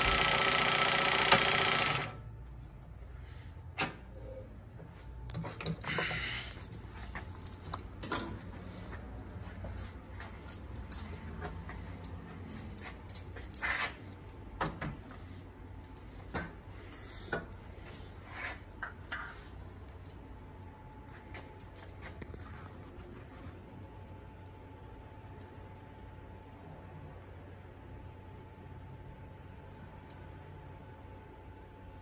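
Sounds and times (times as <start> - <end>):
low steady hum: 1.9 - 32.0.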